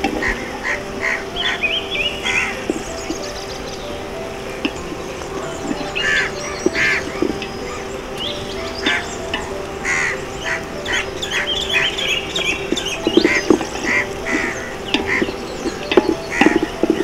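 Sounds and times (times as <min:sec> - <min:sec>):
birds calling: 0:00.0 - 0:17.0
steady low tone: 0:00.0 - 0:17.0.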